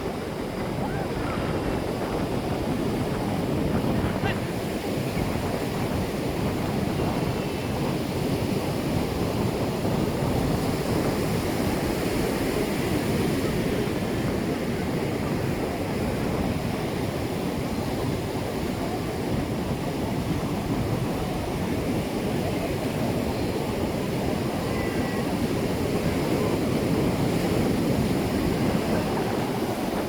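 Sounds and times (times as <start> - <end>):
sea surf washing ashore: 0.0 - 30.0.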